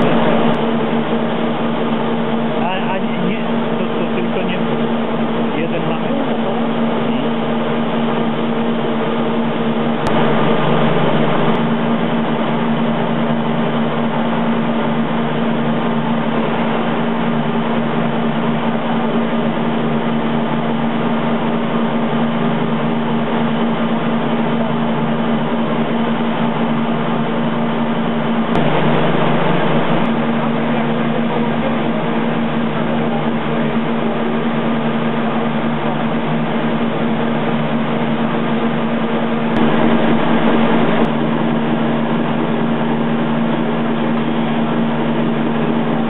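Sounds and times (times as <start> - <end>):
lathe motor humming: 0.0 - 46.0.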